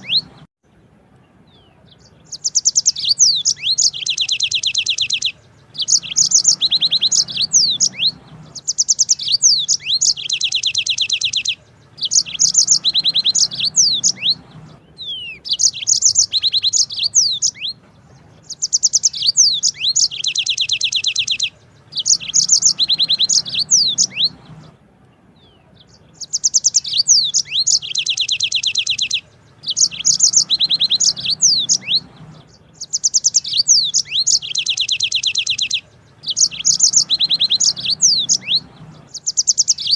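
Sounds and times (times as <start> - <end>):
canary singing high trills: 0.0 - 0.5, 1.5 - 39.9.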